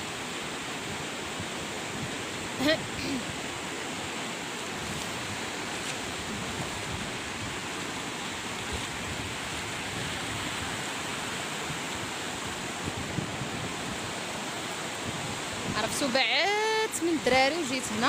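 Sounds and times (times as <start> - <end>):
sea surf washing: 0.0 - 18.0
wind on microphone: 0.1 - 18.0.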